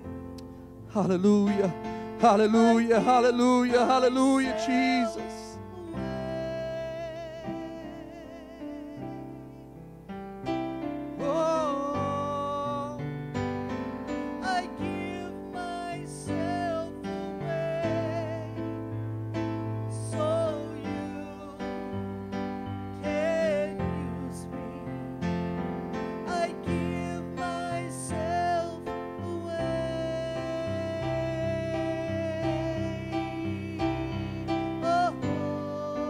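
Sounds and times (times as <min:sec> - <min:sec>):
slow worship music on keyboard: 0:00.0 - 0:36.0.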